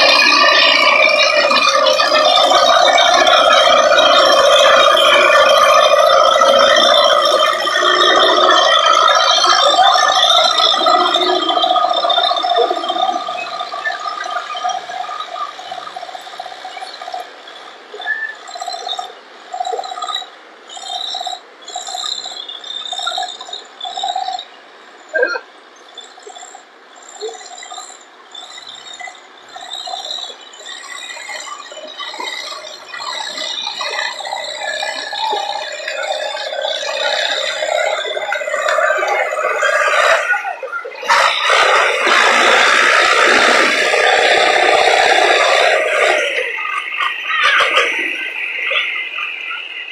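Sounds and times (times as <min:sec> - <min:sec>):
diesel tractor engines clattering: 0:00.0 - 0:49.9.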